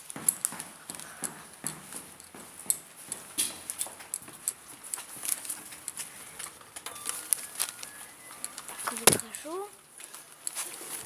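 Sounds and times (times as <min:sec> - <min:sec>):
footsteps on a hard floor: 0:00.0 - 0:09.4.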